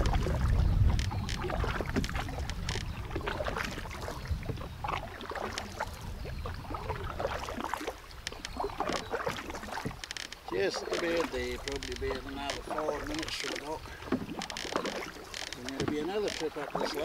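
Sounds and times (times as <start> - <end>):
wind buffeting microphone: 0.0 - 16.3
paddle splashing water: 0.0 - 17.0
water trickling along hull: 0.0 - 17.0.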